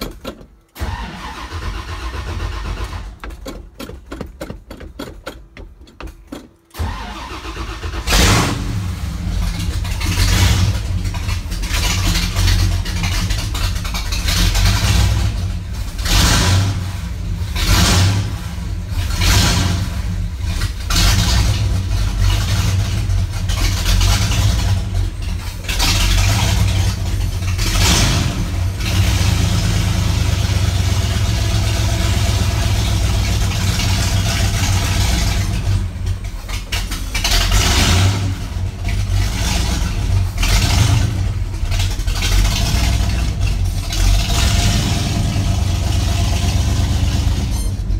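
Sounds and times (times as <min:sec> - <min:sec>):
truck engine revving: 0:00.8 - 0:03.8, 0:06.7 - 0:47.9.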